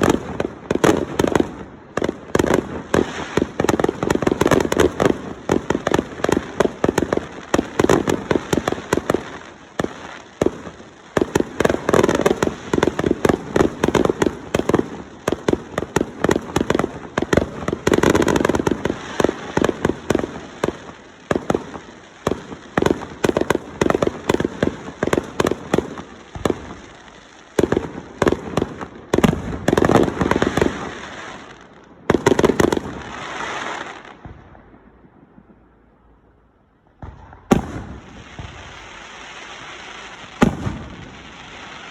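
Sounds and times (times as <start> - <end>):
fireworks cracking and banging: 0.0 - 41.9.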